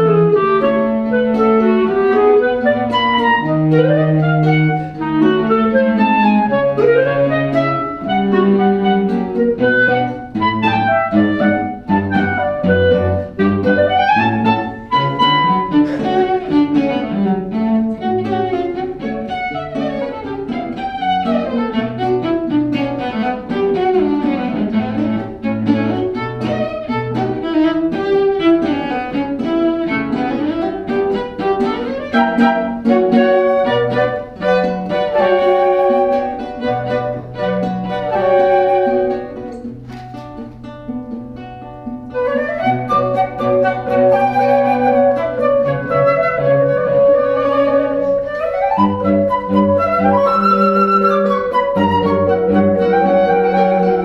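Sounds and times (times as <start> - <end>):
cello holding low notes: 0.0 - 39.4, 42.2 - 54.0
violins playing: 0.0 - 39.6, 42.2 - 54.0.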